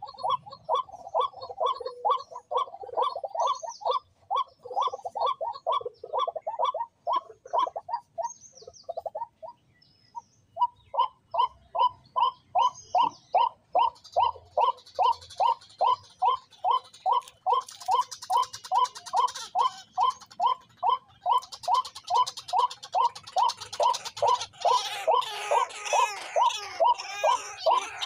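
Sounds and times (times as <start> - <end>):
bird repeated short calls: 0.0 - 28.0
faint high bird chirps: 0.0 - 28.0.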